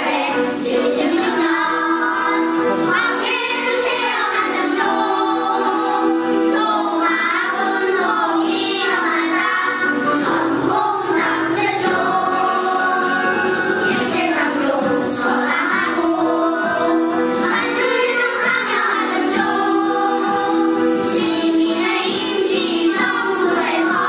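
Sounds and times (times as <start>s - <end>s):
children's choir singing: 0.0s - 24.0s.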